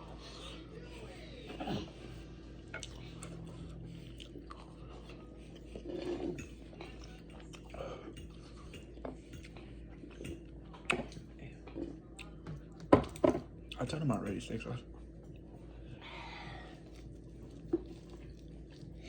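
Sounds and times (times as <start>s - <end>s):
chewing: 0.1s - 13.8s, 14.9s - 19.0s.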